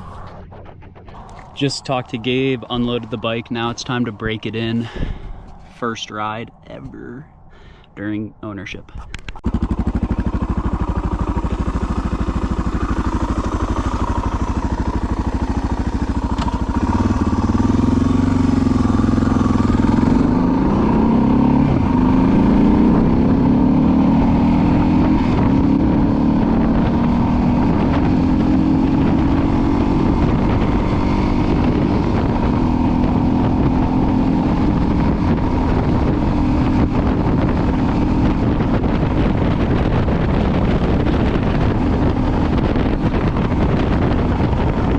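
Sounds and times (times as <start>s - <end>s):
motorcycle engine accelerating: 0.0s - 7.0s, 8.9s - 44.9s.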